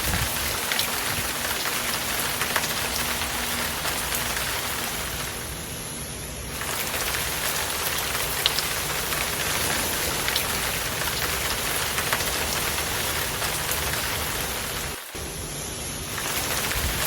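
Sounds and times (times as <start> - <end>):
hard rain falling: 0.0 - 17.0.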